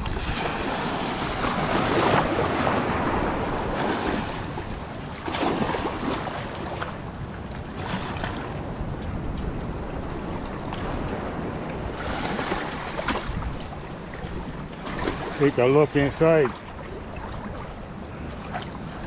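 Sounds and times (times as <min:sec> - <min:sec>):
waves splashing over reef: 0:00.0 - 0:19.0
wind on microphone: 0:00.0 - 0:19.0.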